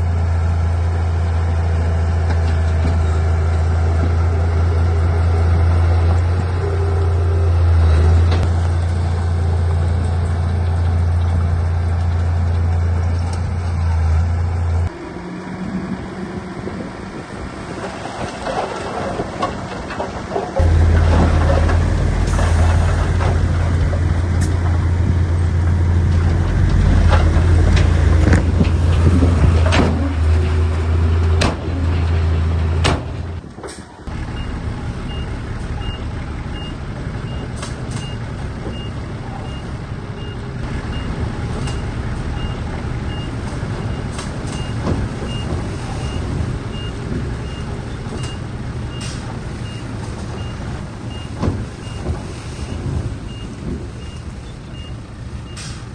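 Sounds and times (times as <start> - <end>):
heavy diesel engine drone: 0.0 - 55.9
truck engine idling: 0.0 - 55.9.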